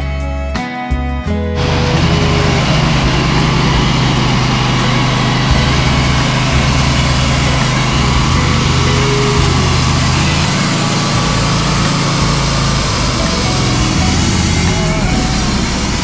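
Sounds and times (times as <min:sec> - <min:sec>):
sawmill engine running: 0:01.6 - 0:16.0.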